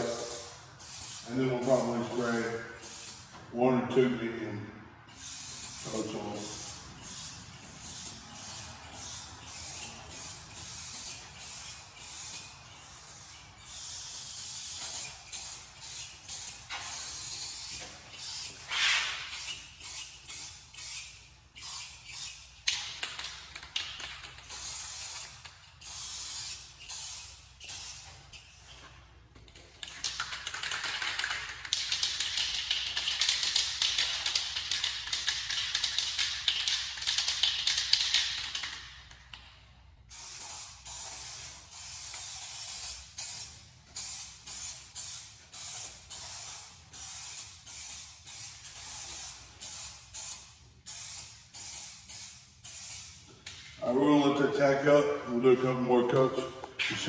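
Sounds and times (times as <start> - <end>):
spray paint can hissing: 0.0 - 3.4, 5.1 - 28.8, 29.6 - 39.4, 40.0 - 53.3.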